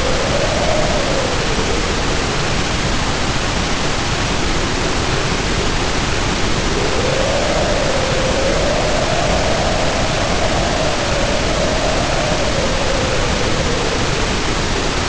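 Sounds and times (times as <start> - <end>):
heavy rain pouring: 0.0 - 15.0
wind howling: 0.0 - 15.0.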